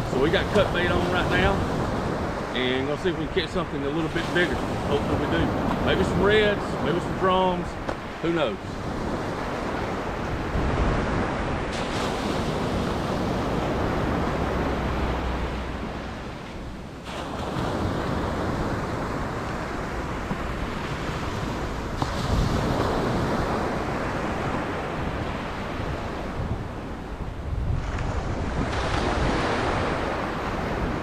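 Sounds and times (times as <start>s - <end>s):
surf washing onto beach: 0.0s - 31.0s
wind buffeting microphone: 0.0s - 31.0s.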